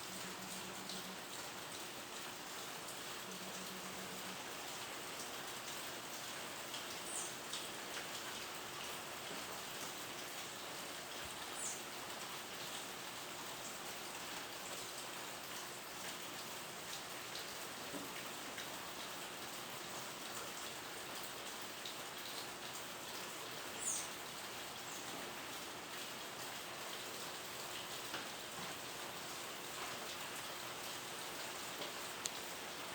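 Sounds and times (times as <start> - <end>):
steady rain: 0.0 - 32.9.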